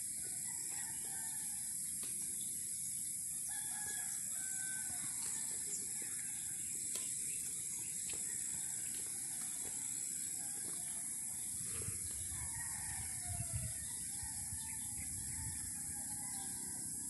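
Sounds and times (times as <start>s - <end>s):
steady high-pitched hiss: 0.0s - 17.0s
distant rooster crowing: 0.2s - 1.8s, 3.4s - 6.8s, 8.1s - 17.0s.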